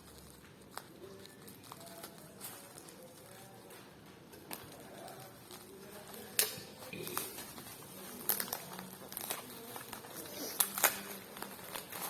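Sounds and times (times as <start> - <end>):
packaging crinkling: 0.0 - 3.8, 4.4 - 12.0.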